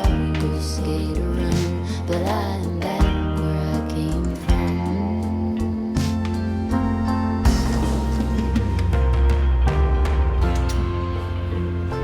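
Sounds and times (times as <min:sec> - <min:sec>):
acoustic guitar music with beat: 0:00.0 - 0:12.0.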